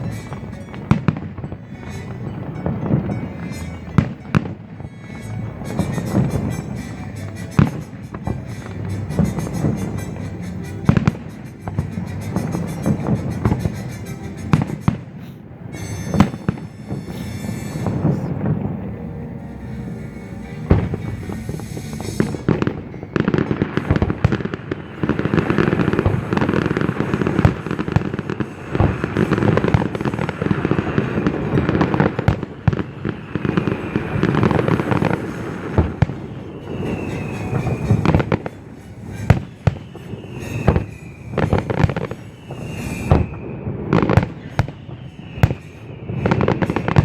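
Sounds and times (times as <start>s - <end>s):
falling firework whistles: 0.0s - 18.8s, 19.4s - 47.0s
fireworks bangs and crackling: 0.0s - 47.0s.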